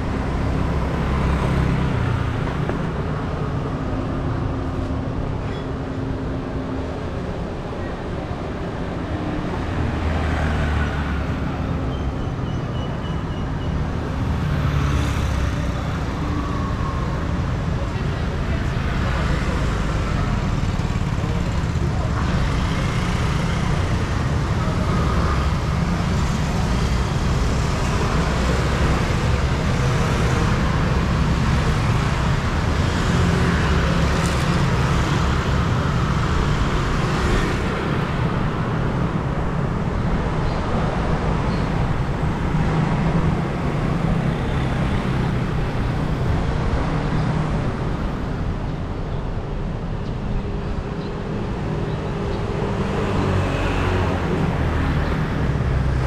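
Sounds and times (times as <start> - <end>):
street traffic rumble: 0.0 - 56.0.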